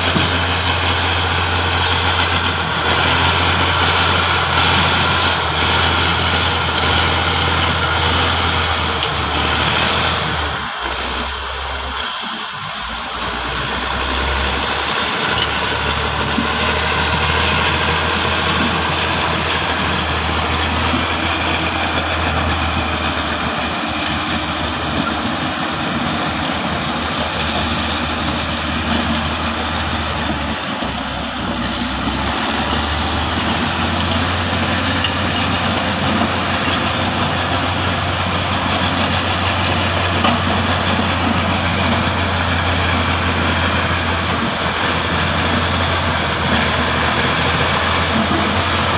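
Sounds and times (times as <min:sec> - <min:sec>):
heavy diesel engines running: 0:00.0 - 0:48.9.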